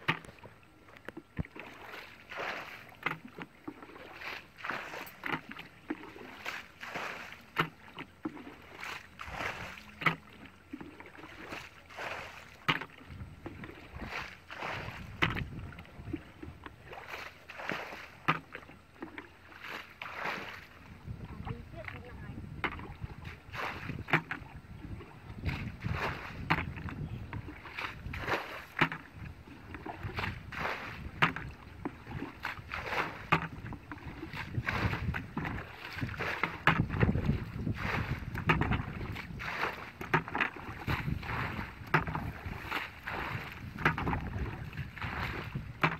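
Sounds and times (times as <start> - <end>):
muddy water sloshing and splashing: 0.0 - 45.9.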